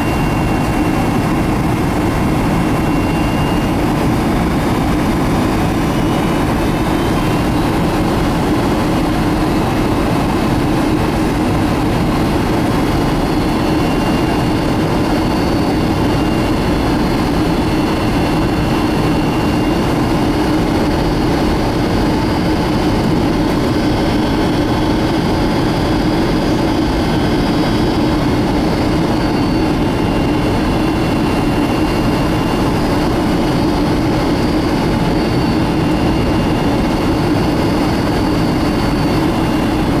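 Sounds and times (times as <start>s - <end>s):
airplane cabin airflow rush: 0.0s - 40.0s
high whining turbofan tones: 0.0s - 40.0s.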